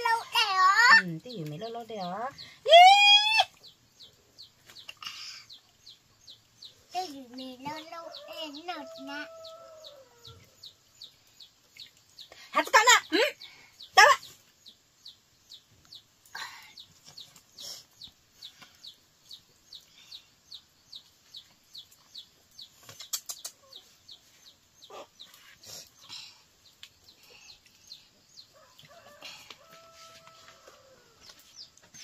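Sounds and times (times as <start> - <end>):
chick peeping: 3.5 - 16.1, 16.8 - 32.0.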